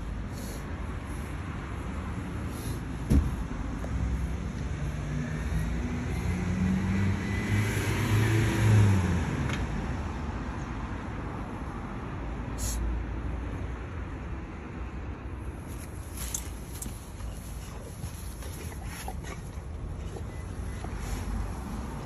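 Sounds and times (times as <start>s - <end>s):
vehicle passing by: 0.3s - 22.0s.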